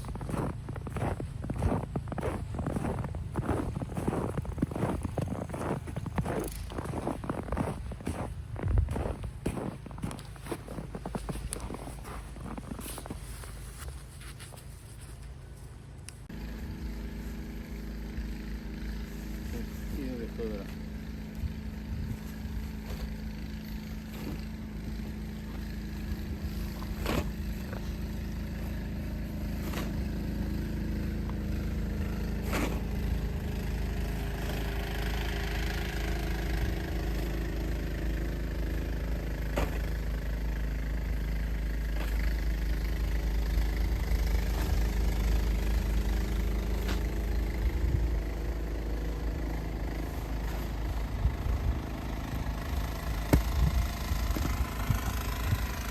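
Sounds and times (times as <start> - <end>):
vehicle engine running: 0.0 - 13.9, 16.2 - 55.9.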